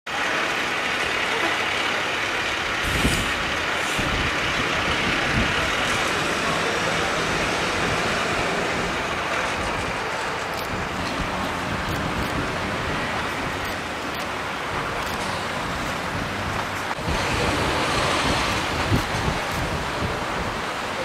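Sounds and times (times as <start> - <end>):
fire engine diesel engine running: 0.1 - 21.0
road traffic noise: 0.1 - 21.0
low rumbles: 0.4 - 21.0.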